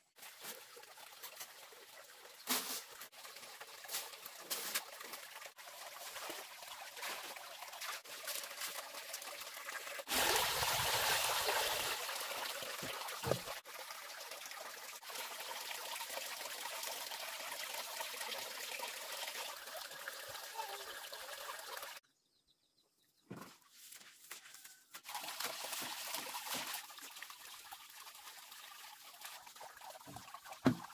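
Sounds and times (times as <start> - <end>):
liquid trickling into plastic basin: 0.2 - 22.0, 25.0 - 30.9.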